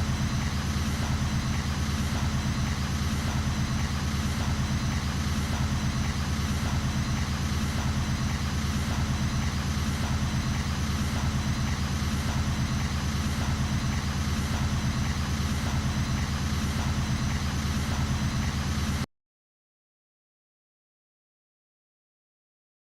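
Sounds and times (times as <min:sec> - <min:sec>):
engine idling: 0:00.0 - 0:19.1.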